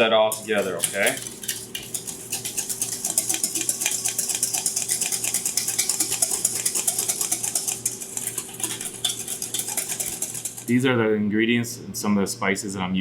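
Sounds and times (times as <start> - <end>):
whisk clicking against bowl: 0.2 - 10.8.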